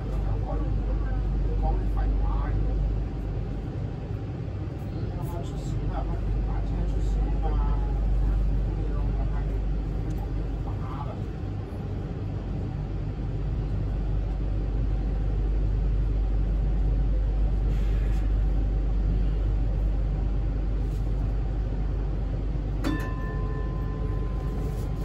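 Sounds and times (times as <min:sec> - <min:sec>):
light rail car rumble: 0:00.0 - 0:25.0.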